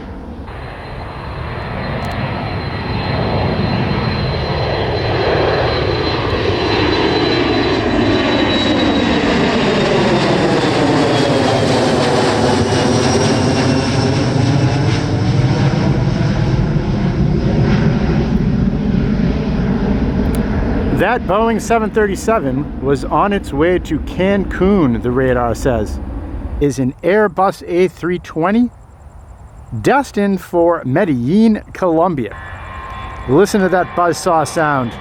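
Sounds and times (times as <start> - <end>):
faint high whine: 0.0 - 35.0
jet engines at takeoff: 0.0 - 35.0.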